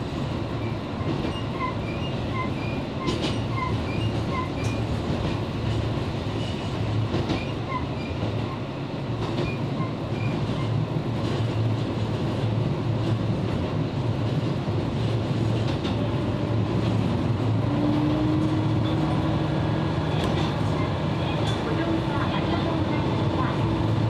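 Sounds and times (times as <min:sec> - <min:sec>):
diesel railcar engine drone: 0:00.0 - 0:24.0.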